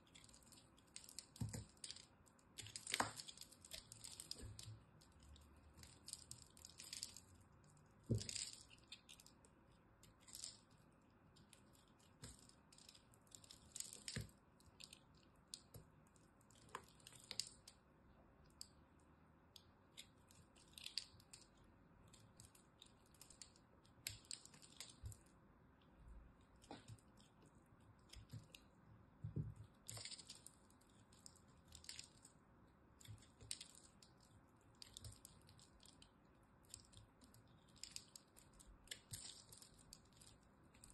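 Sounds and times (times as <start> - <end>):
knife carving soap crackles: 0.0 - 17.8, 19.5 - 25.4, 26.0 - 40.9.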